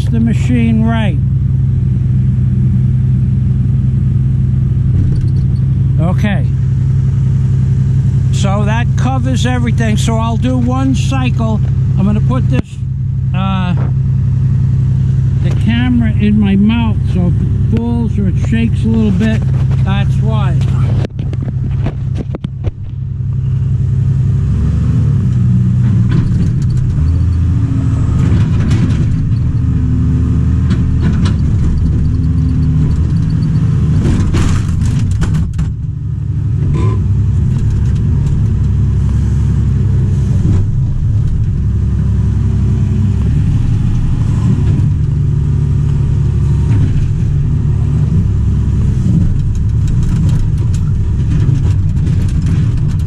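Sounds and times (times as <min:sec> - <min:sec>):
excavator diesel engine under load: 0:00.0 - 0:53.0.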